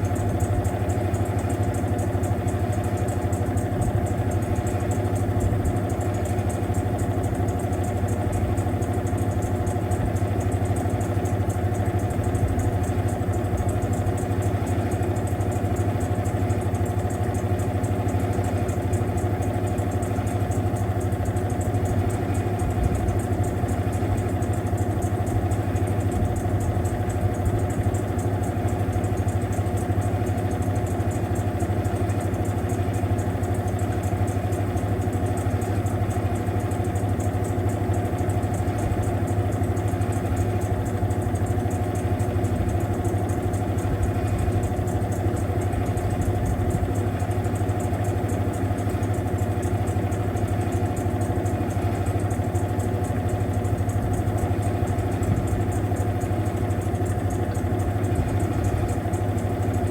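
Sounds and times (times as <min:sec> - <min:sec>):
washing machine running: 0:00.0 - 0:59.9.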